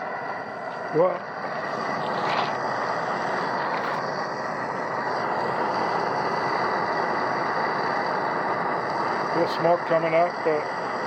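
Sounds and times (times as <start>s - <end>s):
torch flame hissing: 0.0s - 11.0s.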